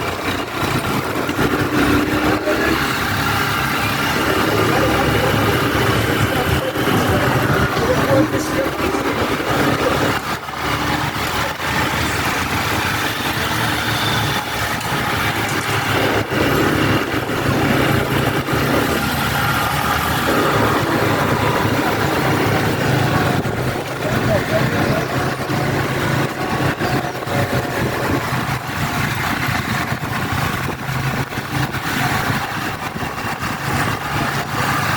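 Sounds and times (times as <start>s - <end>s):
motorbike engine running: 0.0s - 34.9s
people's voices: 0.0s - 34.9s.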